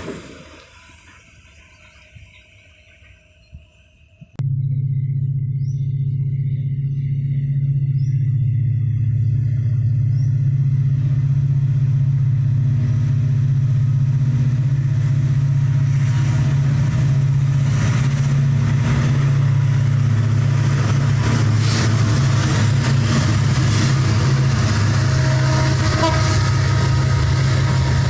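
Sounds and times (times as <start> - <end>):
locomotive engine droning: 0.0 - 28.0.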